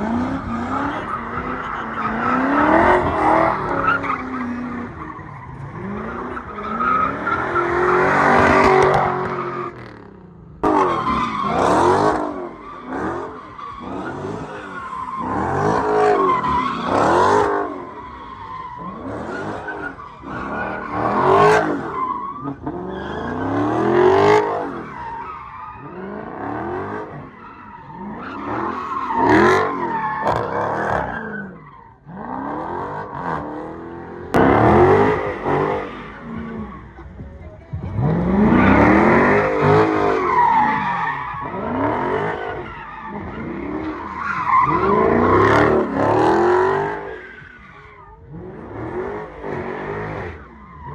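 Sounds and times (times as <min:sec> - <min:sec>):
car engine revving: 0:00.0 - 0:25.0, 0:32.0 - 0:50.9.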